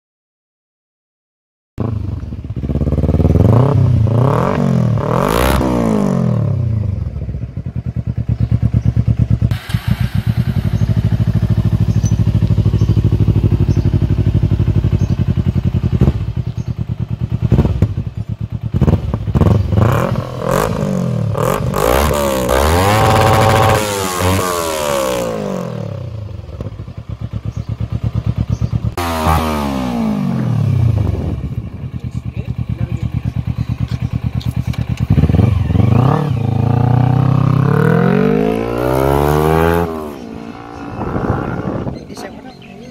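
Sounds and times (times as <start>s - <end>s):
motorcycle engine revving: 1.8s - 42.9s.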